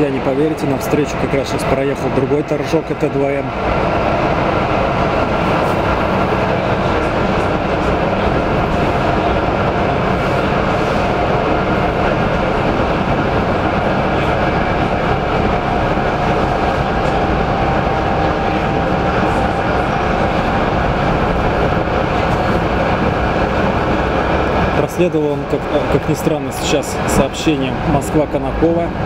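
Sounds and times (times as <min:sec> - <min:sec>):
train wheels on rails: 0:00.0 - 0:29.0.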